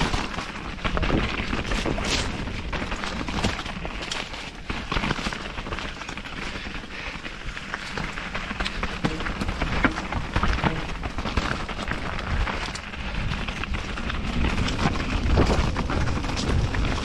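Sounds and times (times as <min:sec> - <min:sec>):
bike rattling clicks and knocks: 0:00.0 - 0:17.0
tyres rolling on trail: 0:00.0 - 0:17.0.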